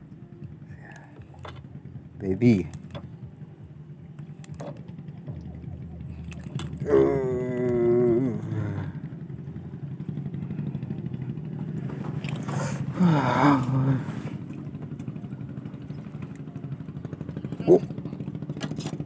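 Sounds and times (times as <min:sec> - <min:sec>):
small engine running: 0:00.2 - 0:19.0.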